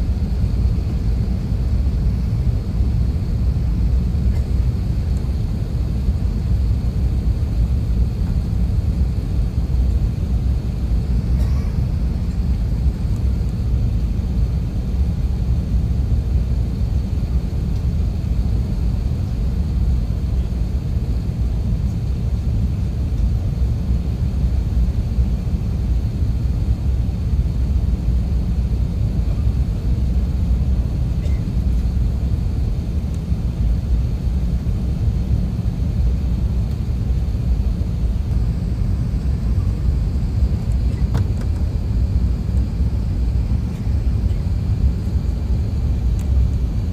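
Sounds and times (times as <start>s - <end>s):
airliner engines rumbling in cabin: 0.0s - 46.9s.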